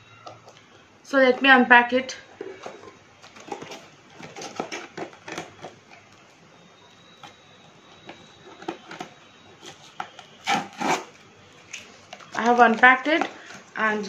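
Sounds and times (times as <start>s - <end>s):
packaging rustling and crinkling: 2.2s - 14.0s.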